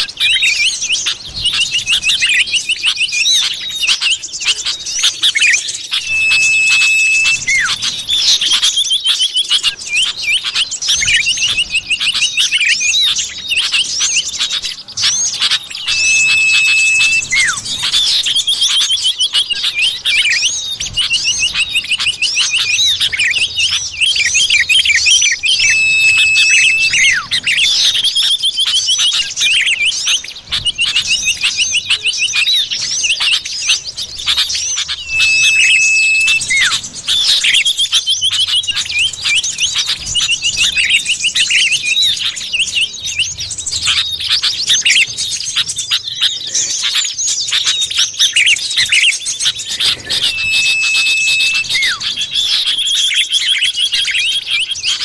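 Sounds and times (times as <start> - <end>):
long steady bird whistle: 0.0 - 55.0
bird chirping rapidly: 0.1 - 46.3, 47.5 - 55.0.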